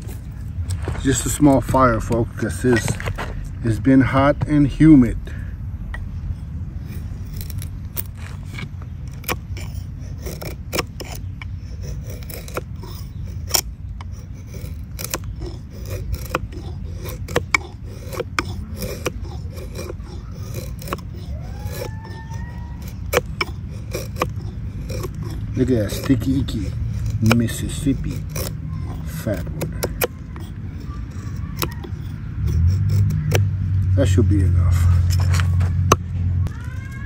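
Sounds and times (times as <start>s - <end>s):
knife scraping wood: 0.0s - 36.2s.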